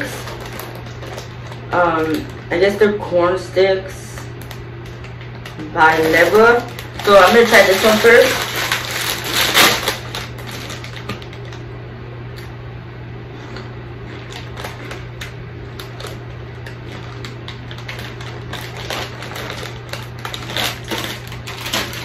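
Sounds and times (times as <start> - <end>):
plastic snack bag crinkling: 0.0 - 3.0, 3.8 - 11.7, 13.4 - 22.0
steady low hum: 0.0 - 22.0.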